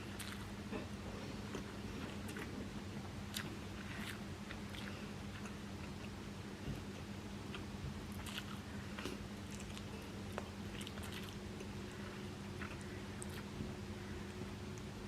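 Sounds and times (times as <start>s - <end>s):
person chewing food: 0.0s - 14.9s
steady low hum: 0.0s - 15.0s.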